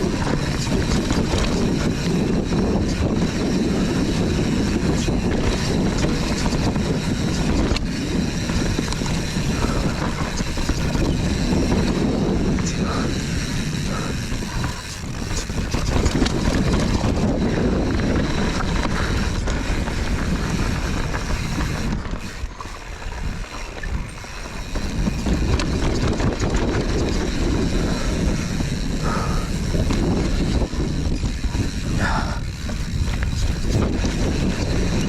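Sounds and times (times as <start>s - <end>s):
bike tyres rumbling on dirt: 0.0s - 35.0s
wind on microphone: 0.0s - 35.0s.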